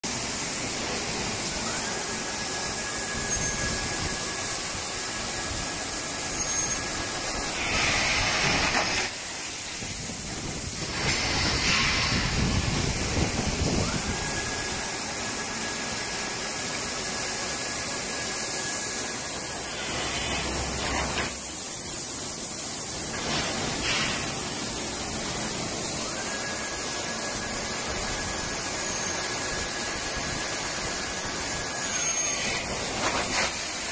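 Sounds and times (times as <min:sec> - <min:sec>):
loud air blasts: 0:00.0 - 0:16.9, 0:18.2 - 0:33.9
steady air hiss: 0:00.0 - 0:33.9
thin high machine whine: 0:00.1 - 0:21.9, 0:23.0 - 0:33.9.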